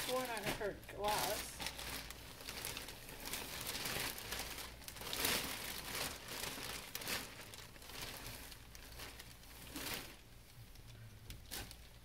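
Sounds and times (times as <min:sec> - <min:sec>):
plastic trash bag rustling: 0:00.0 - 0:12.0.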